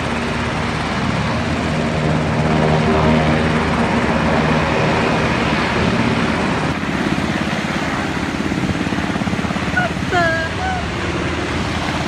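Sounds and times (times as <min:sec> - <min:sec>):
helicopter rotor beat: 0:00.0 - 0:12.0.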